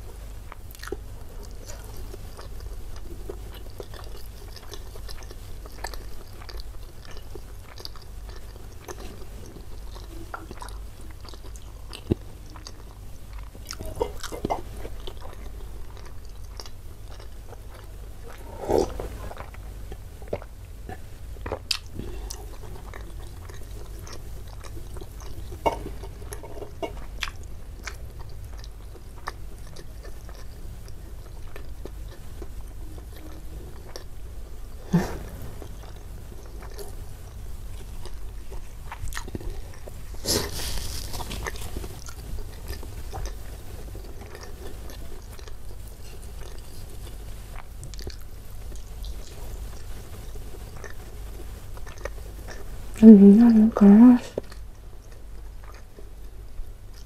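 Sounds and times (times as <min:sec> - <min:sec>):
chewing mouth sounds: 0:00.5 - 0:34.2, 0:35.1 - 0:52.7, 0:54.3 - 0:57.0.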